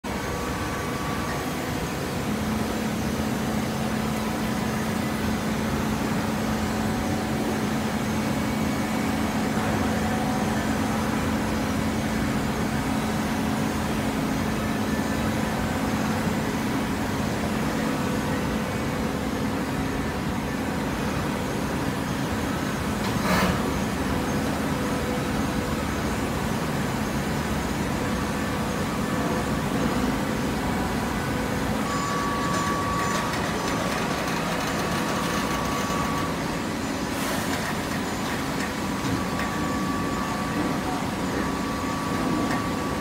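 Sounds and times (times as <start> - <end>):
baler mechanical hum: 0.0 - 43.0.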